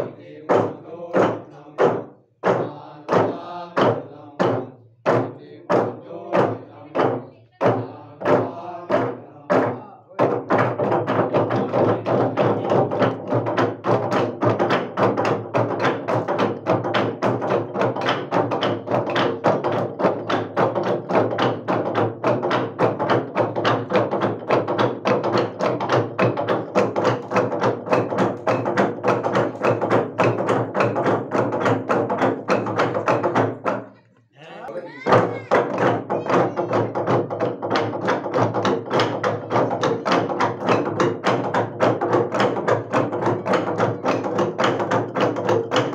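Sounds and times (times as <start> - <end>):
log drum wooden knocks: 0.5 - 33.9, 34.9 - 45.9.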